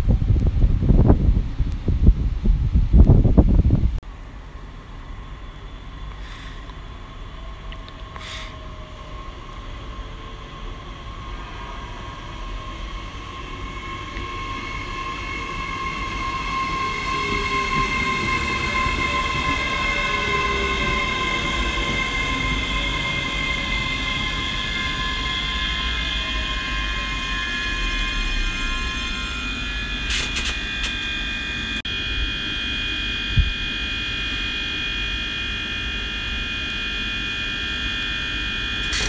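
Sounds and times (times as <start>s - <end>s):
electric train rumble and whine: 0.0s - 39.0s.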